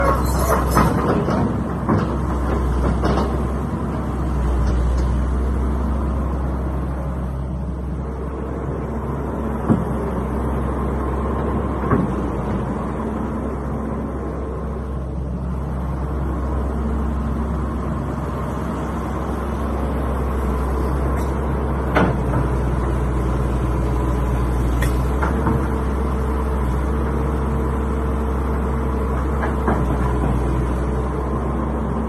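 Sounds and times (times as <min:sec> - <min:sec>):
excavator diesel engine droning: 0:00.0 - 0:32.0.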